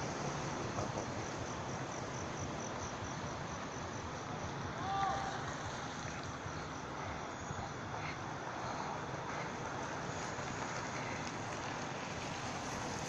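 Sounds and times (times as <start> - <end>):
insect chirping: 0.0 - 11.2
steady background hiss: 0.0 - 13.0.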